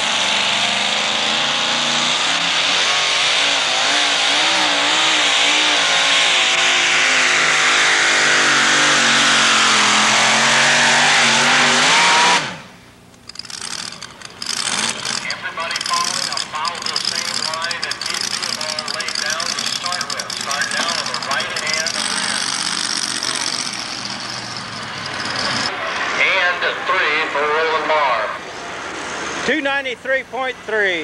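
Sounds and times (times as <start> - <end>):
truck engine running flat out: 0.0 - 29.5.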